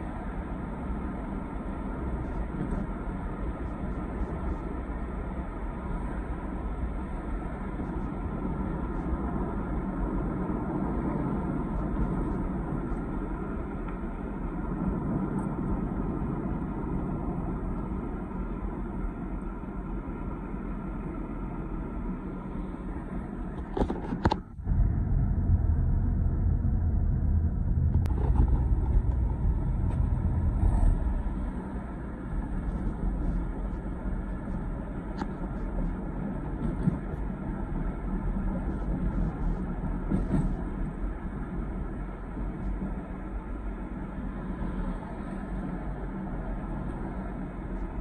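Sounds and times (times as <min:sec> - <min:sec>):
road noise inside car cabin: 0:00.0 - 0:48.0.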